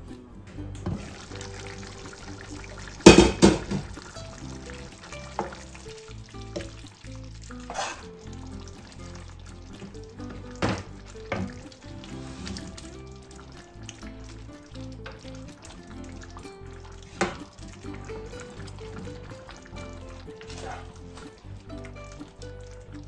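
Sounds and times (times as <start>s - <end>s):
background music: 0.0s - 23.0s
stew bubbling in a pan: 0.6s - 23.0s.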